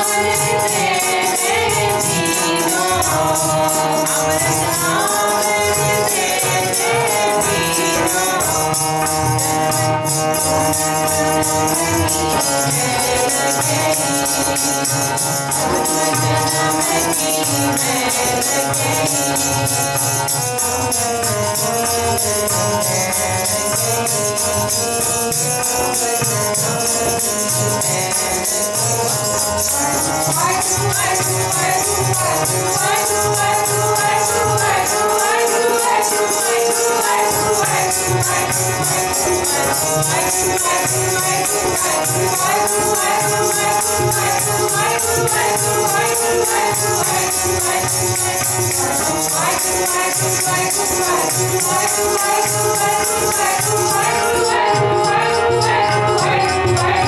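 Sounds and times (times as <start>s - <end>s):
people singing hymns: 0.0s - 20.9s, 29.5s - 57.0s
harmonium: 0.0s - 57.0s
jingling metal percussion: 0.0s - 57.0s.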